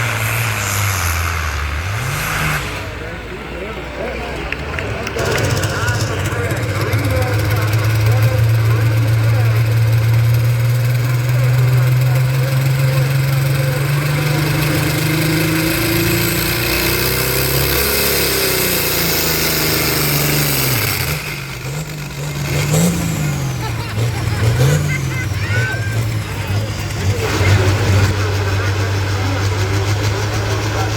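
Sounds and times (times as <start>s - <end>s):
tractor engine revving hard: 0.0s - 30.9s.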